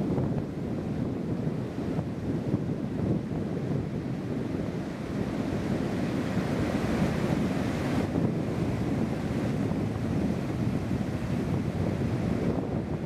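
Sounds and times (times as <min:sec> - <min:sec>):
surf breaking on beach: 0:00.0 - 0:13.0
wind rumbling on microphone: 0:00.0 - 0:13.0.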